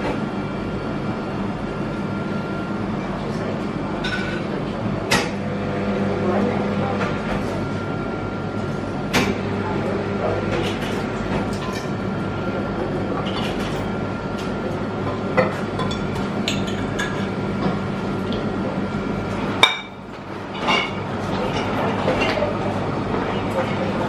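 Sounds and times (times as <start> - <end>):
vending machine humming: 0.0 - 24.0.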